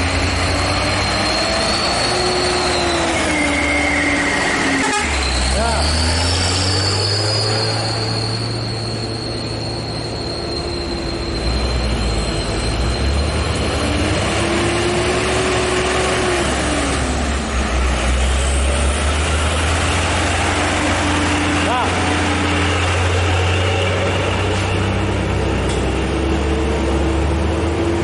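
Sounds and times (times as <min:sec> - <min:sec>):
high-pitched squeal dropping in pitch: 0:00.0 - 0:26.6
heavy truck engine droning: 0:00.0 - 0:28.0.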